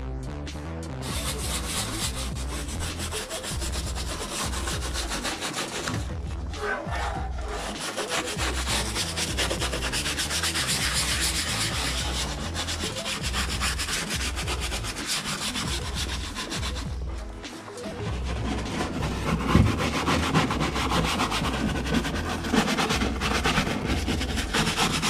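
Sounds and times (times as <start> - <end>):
low pulsing: 0.0 - 24.6
hand rubbing strokes: 1.0 - 25.0.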